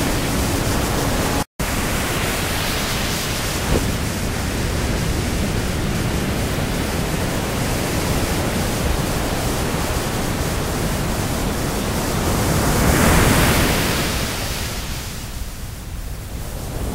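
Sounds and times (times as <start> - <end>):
steady rushing noise: 0.0 - 16.9.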